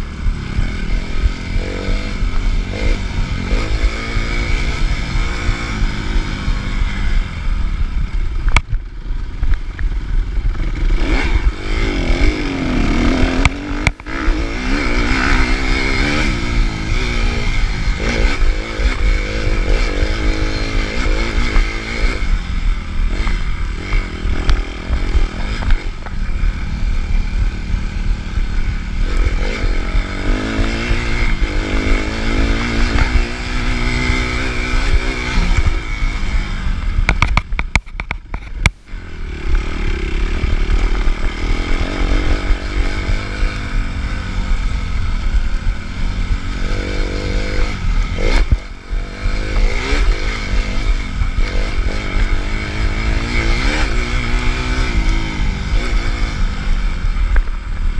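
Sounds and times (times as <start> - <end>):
low wind rumble: 0.0 - 57.9
motocross engine revving: 0.0 - 57.9.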